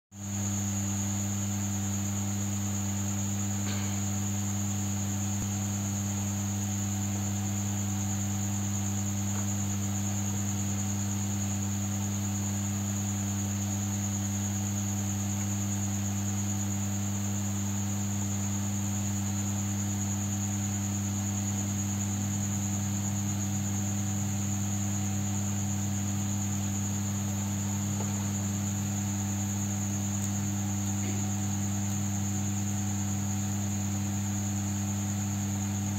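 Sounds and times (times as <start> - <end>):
low electrical hum: 0.2 - 35.9.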